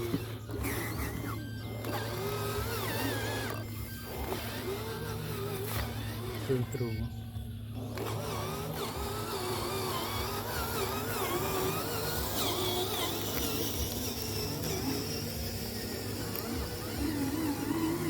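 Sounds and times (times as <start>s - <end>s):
small electric motors whining: 0.0s - 18.0s
steady low hum: 0.0s - 18.0s.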